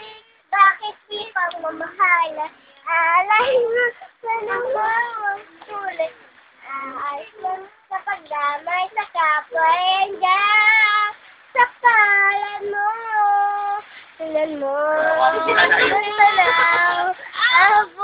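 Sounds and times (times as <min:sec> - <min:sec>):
child singing: 0:00.0 - 0:18.0.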